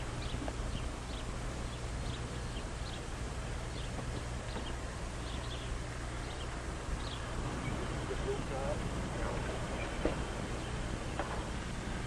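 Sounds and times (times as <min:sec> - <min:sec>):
birds chirping: 0:00.0 - 0:12.0
low hum and hiss: 0:00.0 - 0:12.0.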